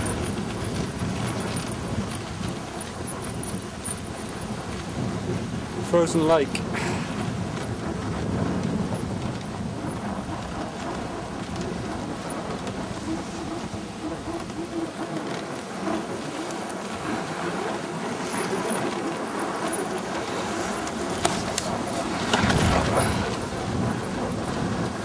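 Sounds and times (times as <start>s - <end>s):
sled runners sliding over snow: 0.0s - 25.0s
wind buffeting microphone: 0.0s - 25.0s.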